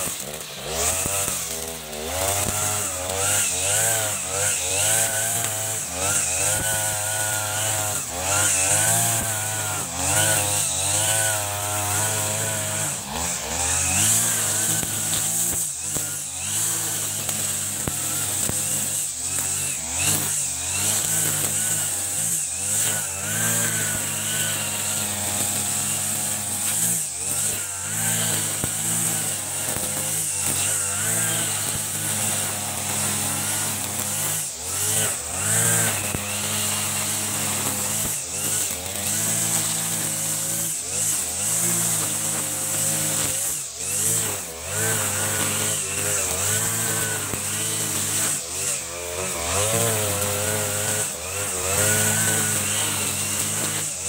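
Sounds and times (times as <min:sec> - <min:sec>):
brush cutter engine cutting grass: 0:00.0 - 0:54.0.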